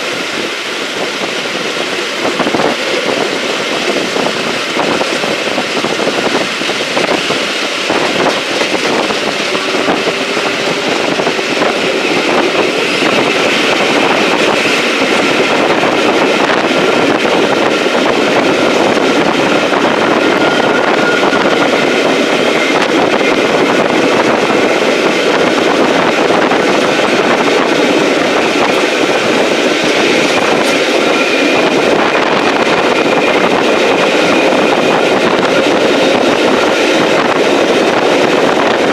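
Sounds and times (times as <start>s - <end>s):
rushing air: 0.0s - 38.9s
train wheels rolling on rails: 0.0s - 38.9s.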